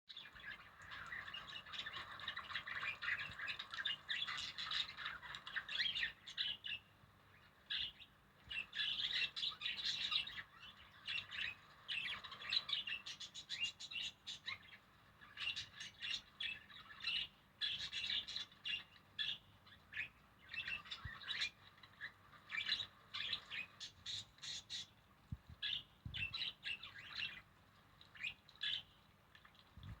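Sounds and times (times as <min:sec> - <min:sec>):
small birds chirping and squawking: 0:00.1 - 0:30.0.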